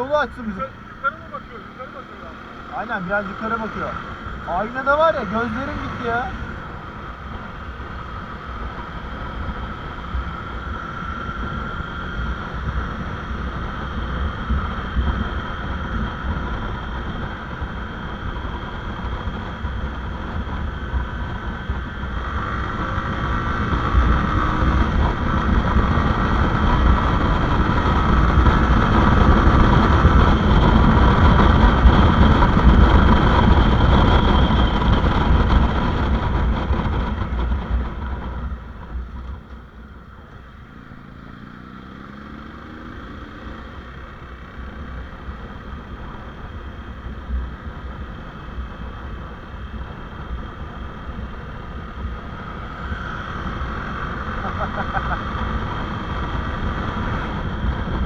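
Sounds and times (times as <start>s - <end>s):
motorcycle engine running: 0.0s - 58.0s
wind rush on microphone: 2.6s - 40.6s, 43.7s - 58.0s.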